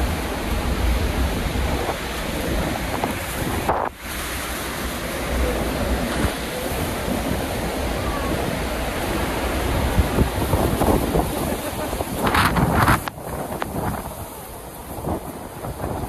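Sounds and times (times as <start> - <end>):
waterfall roaring: 0.0 - 16.0
wind buffeting microphone: 0.0 - 16.0.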